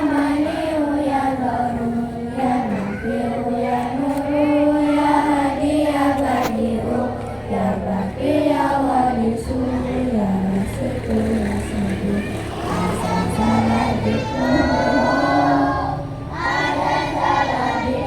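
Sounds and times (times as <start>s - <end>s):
children singing in unison: 0.0s - 18.0s.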